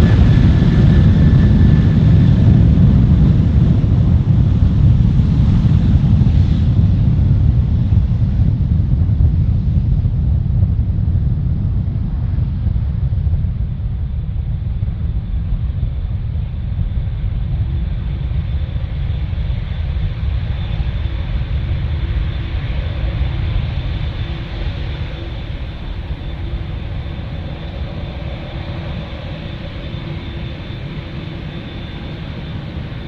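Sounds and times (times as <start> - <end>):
high engine whine: 0.0 - 33.0
jet engines rumbling: 0.0 - 33.0.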